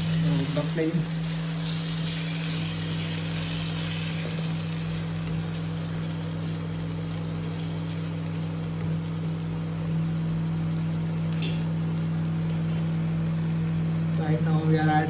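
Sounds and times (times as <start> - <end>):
low cooktop hum: 0.0 - 15.0
onions sizzling in a pan: 0.0 - 15.0.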